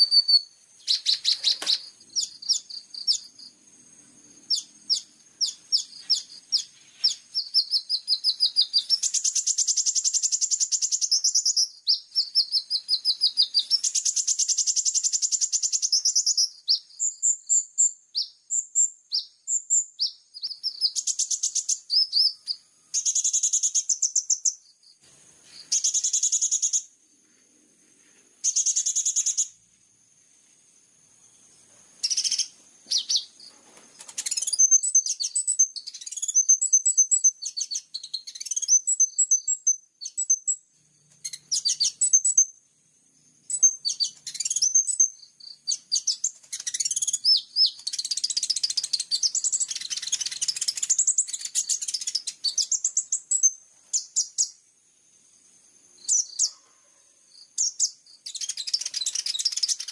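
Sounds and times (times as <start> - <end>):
high-pitched songbird song: 0.0 - 27.0, 28.4 - 29.6, 31.3 - 54.6, 55.9 - 56.7, 57.3 - 59.9.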